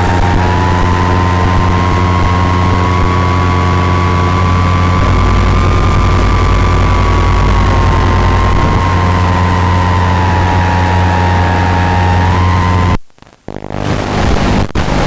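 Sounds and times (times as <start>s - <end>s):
wind noise: 0.0s - 12.7s
model aircraft motor whine: 0.0s - 13.0s
low hum: 0.0s - 14.9s.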